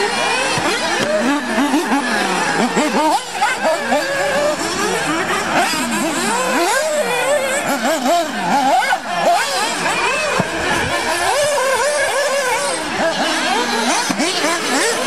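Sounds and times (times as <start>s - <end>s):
rc car engines revving: 0.0s - 15.0s.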